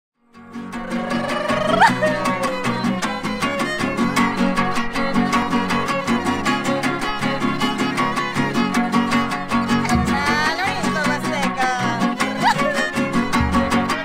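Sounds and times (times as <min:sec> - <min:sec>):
fast guitar strumming: 0:00.4 - 0:14.0
violin melody: 0:00.4 - 0:14.0.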